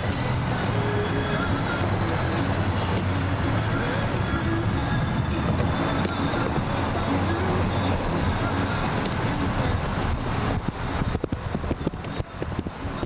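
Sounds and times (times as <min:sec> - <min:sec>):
faint music: 0:00.0 - 0:11.0
road traffic noise: 0:00.0 - 0:13.0.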